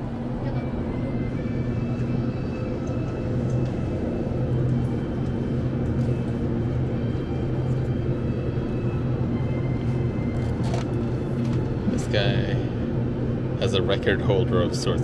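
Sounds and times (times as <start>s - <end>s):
refrigerated cooler humming: 0.0s - 15.0s.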